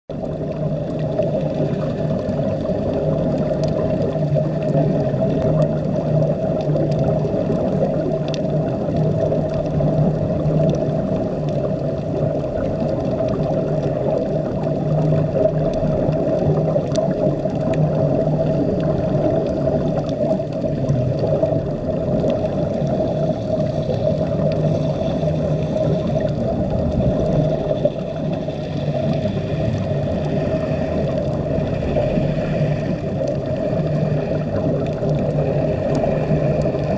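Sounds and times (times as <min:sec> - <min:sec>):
low underwater hum: 0:00.1 - 0:36.9
underwater water noise: 0:00.1 - 0:36.9.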